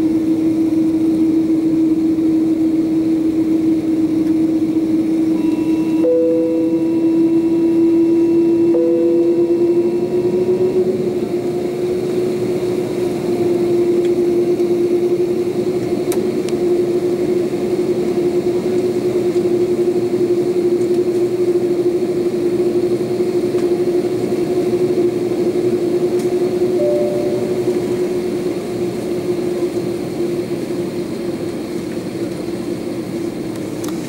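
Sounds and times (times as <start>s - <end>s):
jet engine whine: 0.0s - 34.0s.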